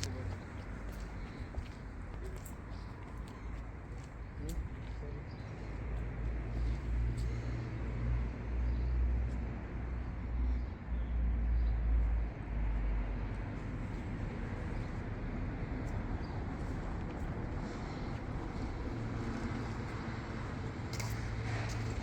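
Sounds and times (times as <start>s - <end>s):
street background hum: 0.0s - 22.0s.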